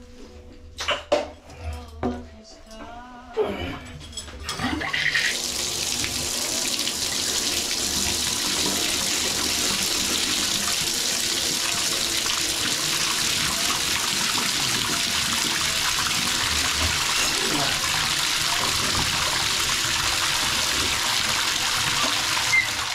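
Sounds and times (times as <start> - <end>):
water running into bathtub: 4.5 - 22.9.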